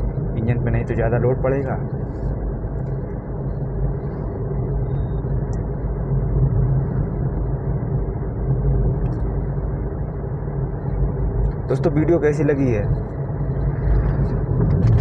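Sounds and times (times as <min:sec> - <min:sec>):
car engine drone: 0:00.0 - 0:15.0
road noise: 0:00.0 - 0:15.0.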